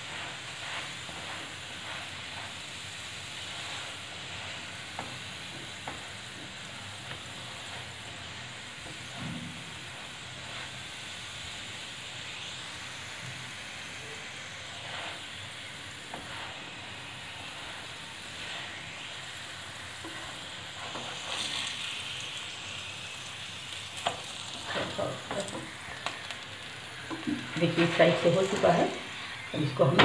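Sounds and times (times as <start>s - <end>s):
spatula scraping pan: 0.0s - 11.8s, 14.2s - 22.1s, 24.0s - 30.0s
oil sizzling in a pan: 0.0s - 30.0s.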